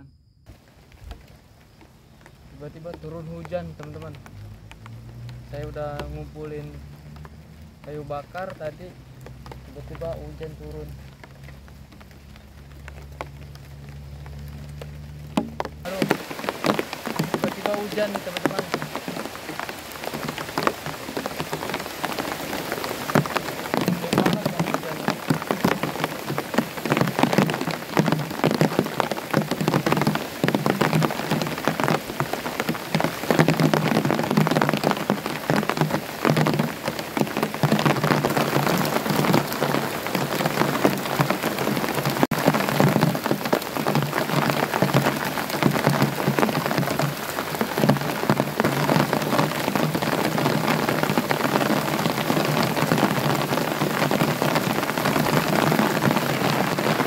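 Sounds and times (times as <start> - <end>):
rain pattering: 0.5 - 57.0.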